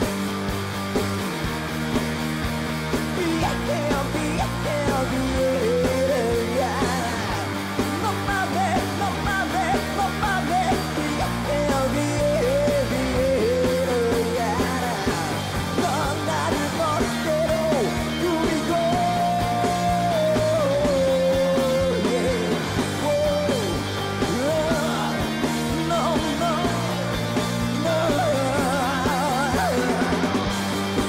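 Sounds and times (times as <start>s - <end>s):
drums: 0.0s - 31.0s
electric guitars: 0.0s - 31.0s
person singing: 3.0s - 30.6s.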